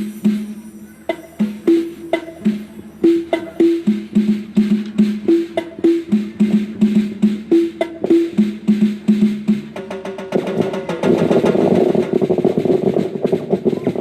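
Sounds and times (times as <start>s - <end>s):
tom-tom drums: 0.0s - 14.0s.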